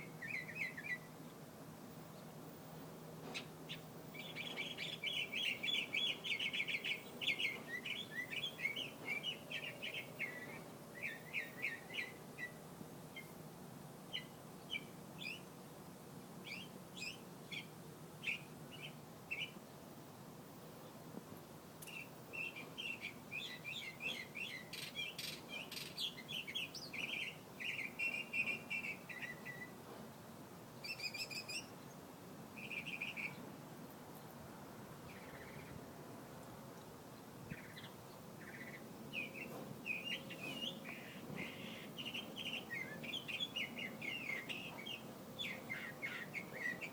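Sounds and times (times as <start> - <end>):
songbird singing: 0.0 - 13.4, 14.0 - 21.1, 21.8 - 30.0, 30.7 - 46.9.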